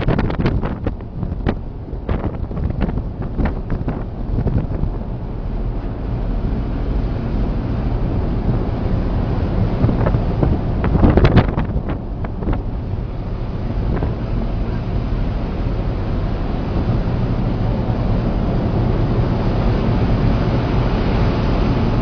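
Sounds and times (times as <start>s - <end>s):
rush with crackling: 0.0s - 22.0s
vessel rumbling at sea: 0.0s - 22.0s
wind buffeting microphone: 0.0s - 22.0s.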